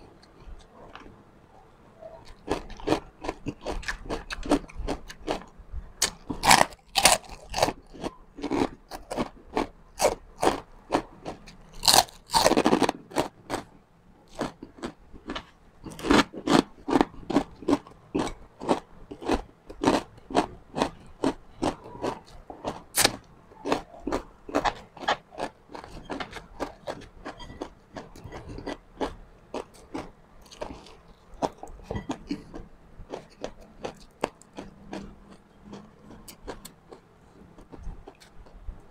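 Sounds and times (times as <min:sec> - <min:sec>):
chewing crispy pork: 0:02.2 - 0:13.7, 0:14.3 - 0:38.6.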